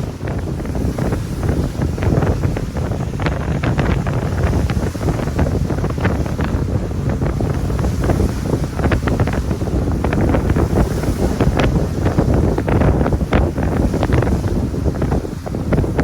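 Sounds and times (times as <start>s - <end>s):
water slapping boat hull: 0.0s - 16.0s
wind buffeting microphone: 0.0s - 16.0s.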